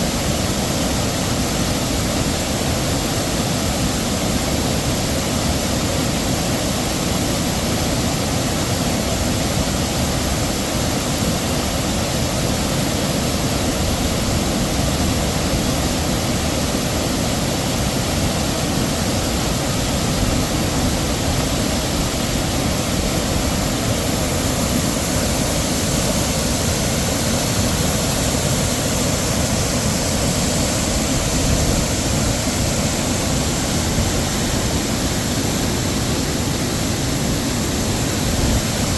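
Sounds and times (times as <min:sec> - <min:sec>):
heavy waterfall pouring: 0:00.0 - 0:38.9.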